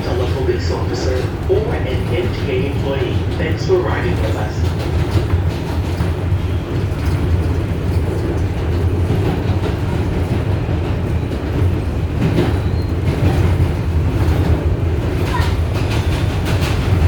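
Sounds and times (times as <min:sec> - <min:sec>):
subway car rumbling: 0:00.0 - 0:17.0
wheels clicking over rail joints: 0:00.1 - 0:17.0.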